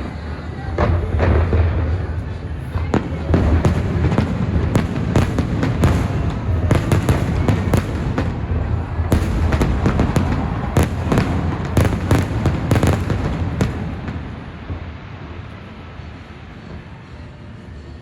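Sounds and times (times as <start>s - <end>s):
fireworks bursts and crackling: 0.0s - 18.0s.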